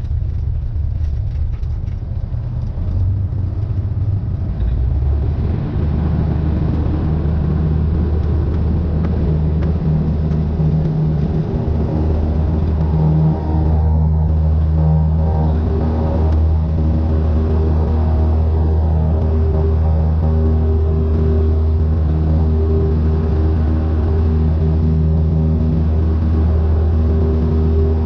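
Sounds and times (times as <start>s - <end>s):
aircraft piston engine running: 2.7s - 28.0s.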